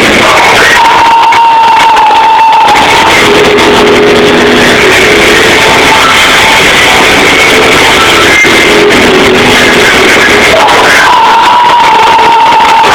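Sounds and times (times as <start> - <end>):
metal band playing live: 0.0 - 12.9.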